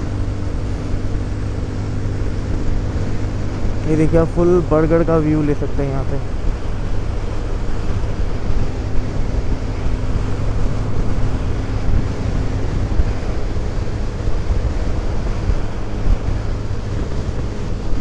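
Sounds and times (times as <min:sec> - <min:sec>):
motorcycle engine drone: 0:00.0 - 0:18.0
wind rushing over microphone: 0:00.0 - 0:18.0.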